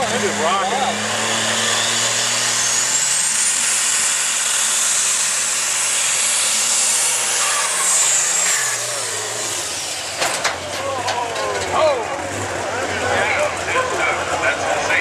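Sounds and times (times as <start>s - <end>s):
diesel engine revving hard: 0.0s - 11.0s, 11.6s - 15.0s
high turbo whine: 0.0s - 15.0s.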